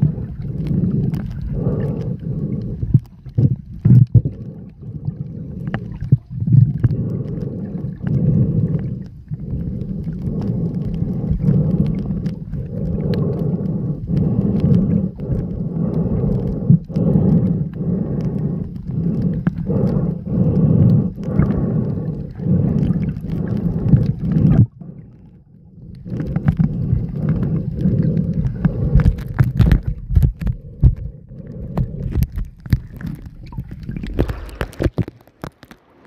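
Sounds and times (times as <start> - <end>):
sharp clicks and crackles: 0.0 - 36.0
underwater rumbling and gurgling: 0.0 - 36.0.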